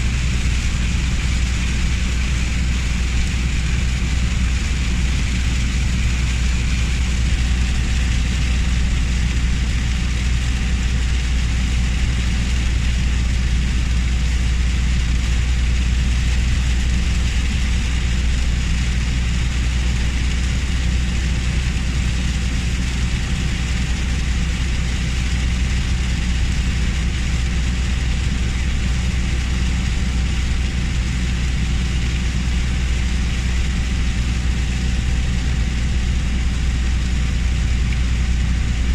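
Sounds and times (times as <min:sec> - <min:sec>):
car rumbling: 0:00.0 - 0:38.9
heavy rain hiss: 0:00.0 - 0:38.9.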